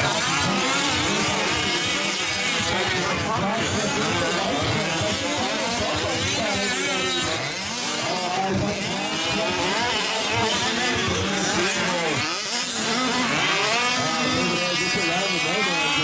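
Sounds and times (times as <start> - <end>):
small two-stroke engines buzzing: 0.0 - 16.0.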